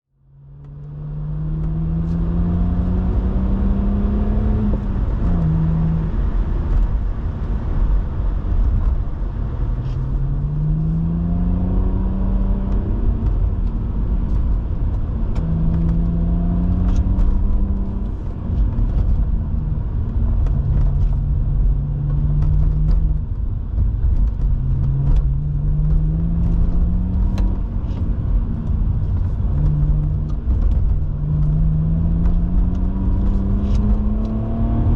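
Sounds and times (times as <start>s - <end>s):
road rumble: 0.1s - 34.9s
car engine revving through gears: 0.3s - 34.9s.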